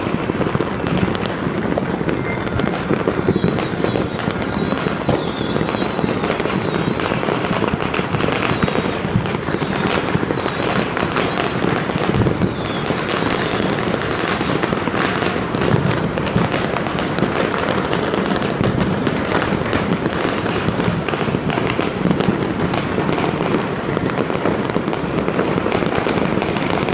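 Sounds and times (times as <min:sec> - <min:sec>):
faint firework whistles: 0:00.0 - 0:26.9
fireworks crackling and banging: 0:00.0 - 0:26.9.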